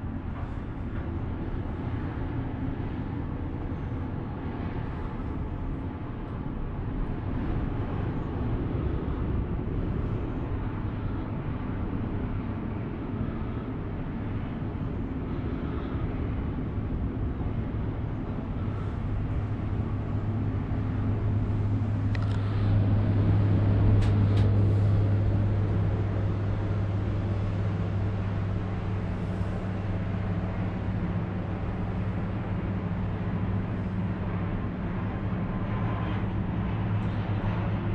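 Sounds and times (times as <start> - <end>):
cable car rumbling along cable: 0.0 - 37.9
low hum: 0.0 - 37.9.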